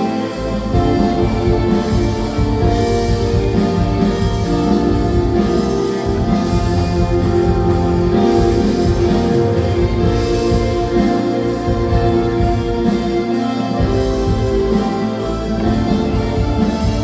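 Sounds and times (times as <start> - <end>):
bass: 0.0 - 17.0
drums: 0.0 - 17.0
electric guitar: 0.0 - 17.0
keyboard and synthesizer chords: 0.0 - 17.0.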